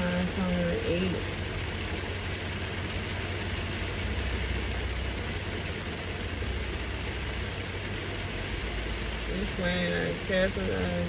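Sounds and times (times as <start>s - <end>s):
heavy rain on car roof: 0.0s - 11.0s
low hum: 0.0s - 11.0s.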